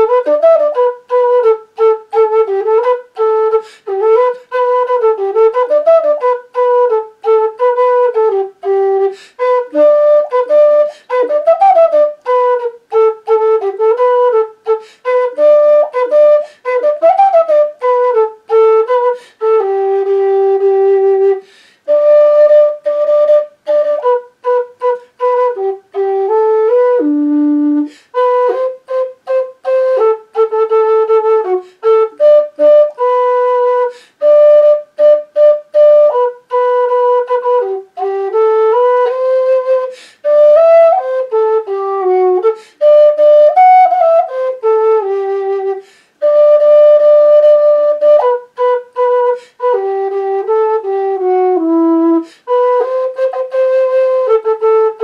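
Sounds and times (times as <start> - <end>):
low whistle melody: 0.0 - 55.0.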